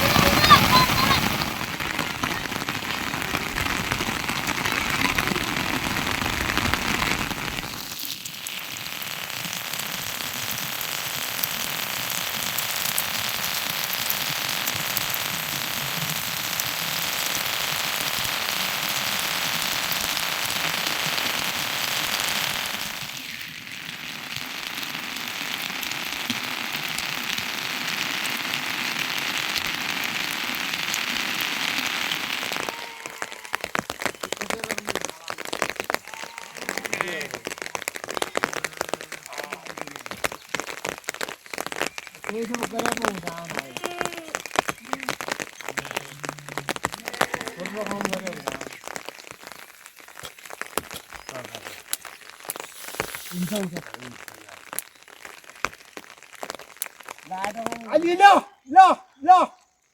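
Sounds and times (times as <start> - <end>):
steady rain falling: 0.0 - 59.8.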